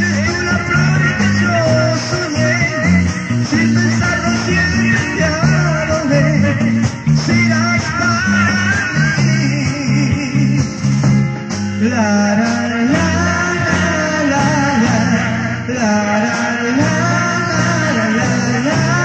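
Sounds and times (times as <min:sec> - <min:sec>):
person singing: 0:00.0 - 0:10.8, 0:11.8 - 0:19.0
bass guitar: 0:00.0 - 0:19.0
drum kit: 0:00.0 - 0:19.0
electric guitar: 0:00.0 - 0:19.0.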